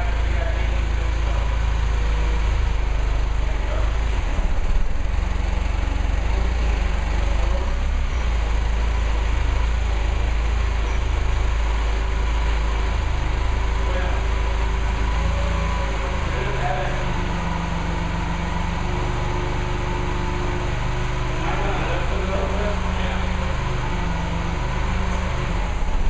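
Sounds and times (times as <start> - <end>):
forklift engine humming: 0.0 - 26.0.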